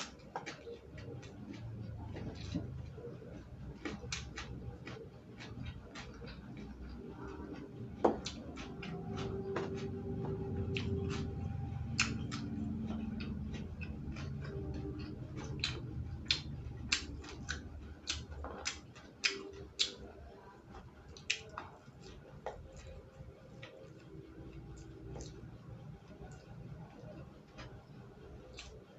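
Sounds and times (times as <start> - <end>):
person chewing crunchy vegetables: 0.0 - 28.9.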